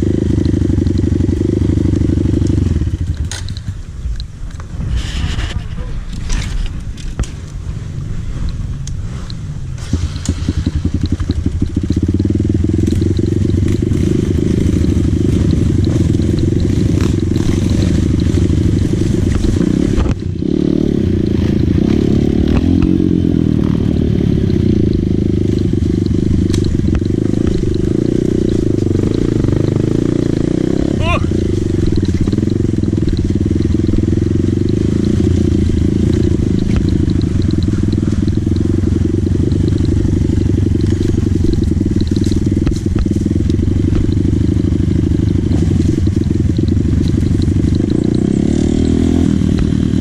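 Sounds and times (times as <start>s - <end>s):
dirt bike engine running: 0.0s - 50.0s.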